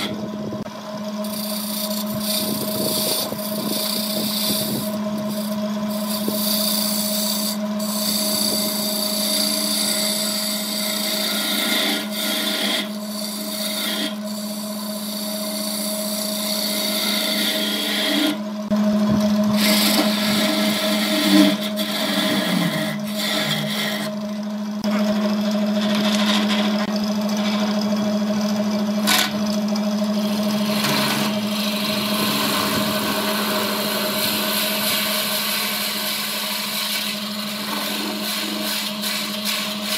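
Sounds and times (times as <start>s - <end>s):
chisel scraping spinning wood: 0.0s - 27.9s, 30.1s - 39.9s
lathe motor hum: 0.0s - 39.9s.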